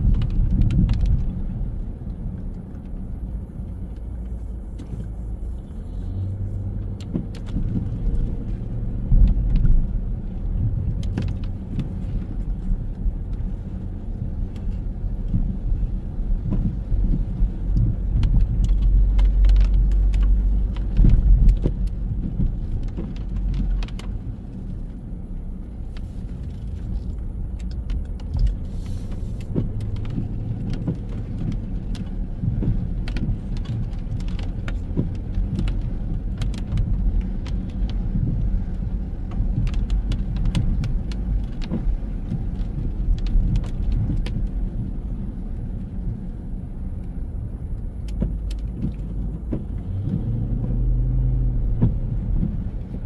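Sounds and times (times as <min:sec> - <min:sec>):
car traffic rumble: 0:00.0 - 0:53.0
engine hum: 0:00.0 - 0:53.0.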